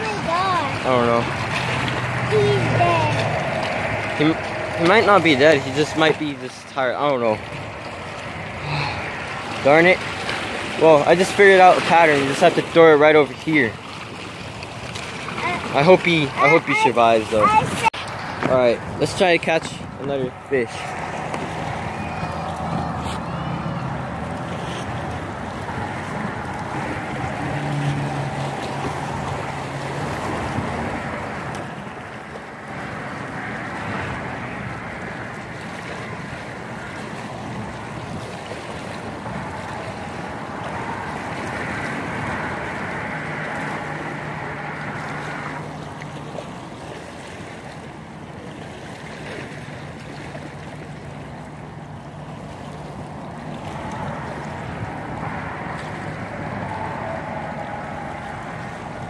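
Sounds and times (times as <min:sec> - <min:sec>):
water lapping against rocks: 0:00.0 - 0:59.0.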